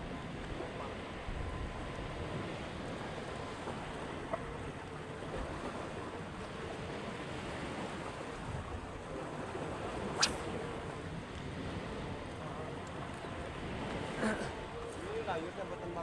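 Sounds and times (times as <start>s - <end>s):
faint steady hum: 0.0s - 16.0s
wind: 0.0s - 16.0s.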